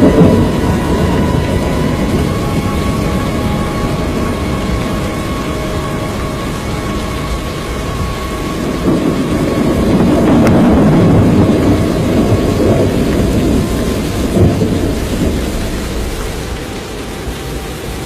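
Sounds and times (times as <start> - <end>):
loud storm rumble: 0.0 - 18.0
rain-like hiss: 0.0 - 18.0.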